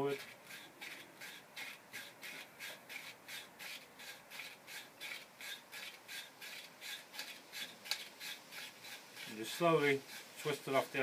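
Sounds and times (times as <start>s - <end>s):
cutters rasping paint off pipe: 0.0s - 10.8s.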